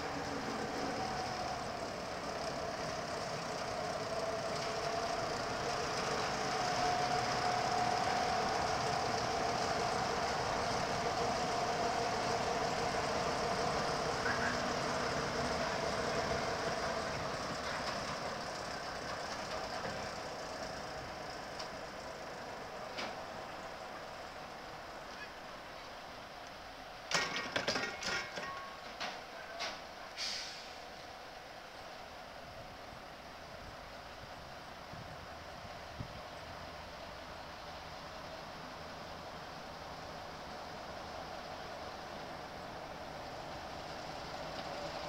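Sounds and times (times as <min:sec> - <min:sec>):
diesel locomotive engine: 0:00.0 - 0:45.0
rolling train wheels whining: 0:00.0 - 0:45.0.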